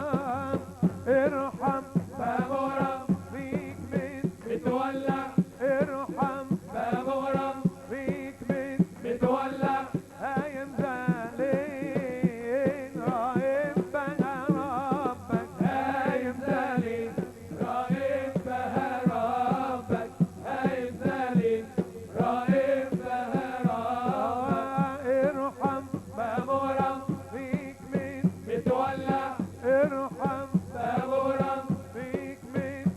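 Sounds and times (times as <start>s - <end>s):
fast drum beat: 0.0s - 32.9s.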